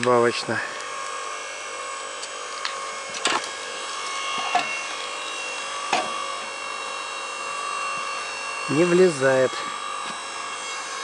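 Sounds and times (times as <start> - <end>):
hydraulic log splitter humming: 0.0 - 11.0.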